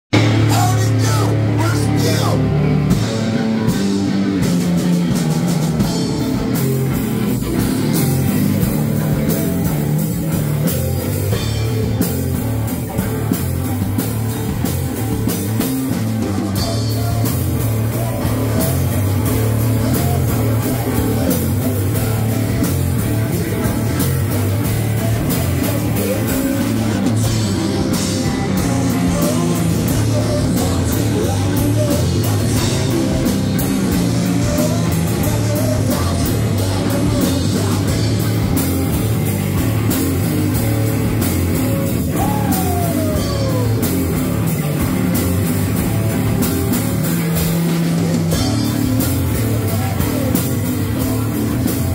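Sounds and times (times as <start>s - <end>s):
drum kit with cymbals: 0.1s - 51.9s
electric guitars: 0.1s - 51.9s.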